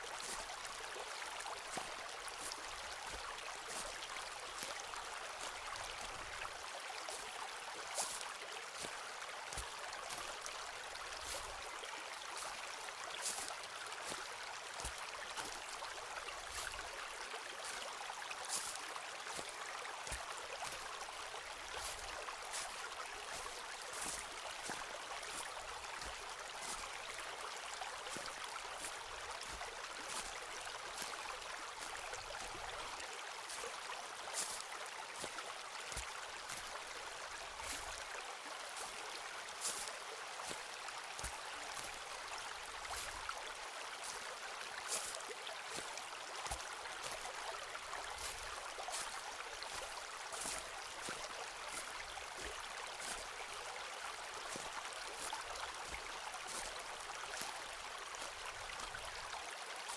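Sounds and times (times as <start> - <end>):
footsteps crunching on forest path: 0.0 - 59.9.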